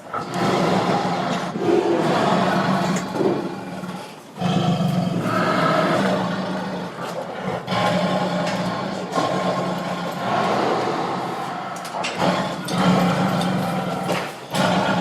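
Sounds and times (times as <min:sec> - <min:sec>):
tiger growling and snarling: 0:00.0 - 0:15.0.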